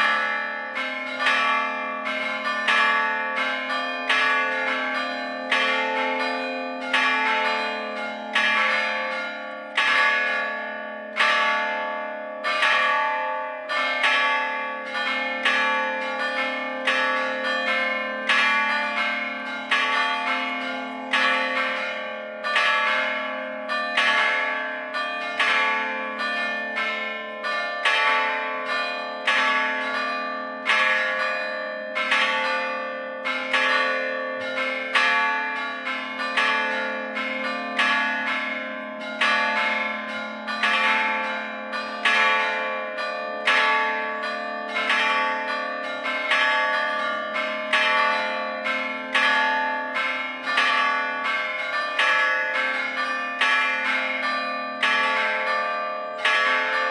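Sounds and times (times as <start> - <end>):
church bells ringing: 0.0 - 56.9.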